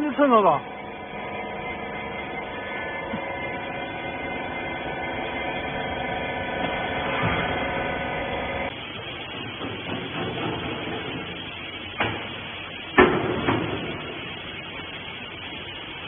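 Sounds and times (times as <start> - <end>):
hydraulic pump motor humming: 0.0 - 14.9
rough mechanical noise: 0.0 - 16.0.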